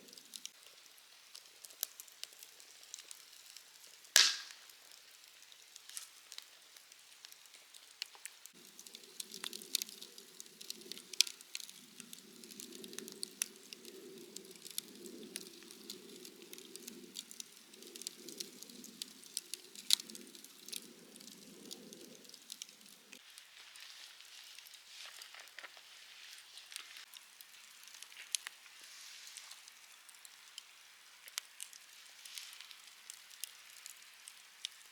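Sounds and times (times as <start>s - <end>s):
bonfire crackling and popping: 0.0s - 34.9s
fire snapping: 0.0s - 34.9s.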